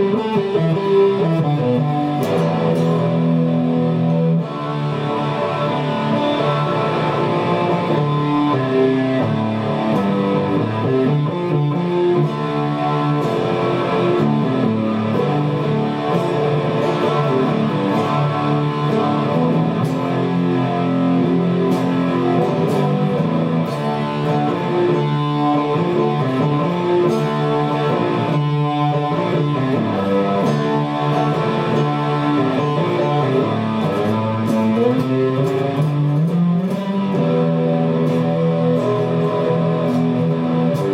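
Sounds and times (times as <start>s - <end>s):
plucked and strummed guitar: 0.0s - 40.9s.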